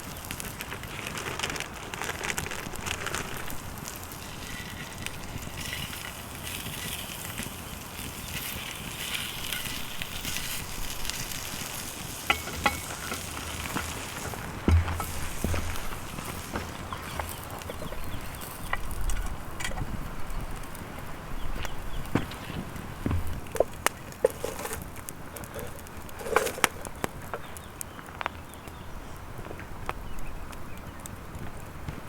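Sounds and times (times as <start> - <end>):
campfire crackling: 0.0 - 32.0
sharp fire snaps: 0.0 - 32.0.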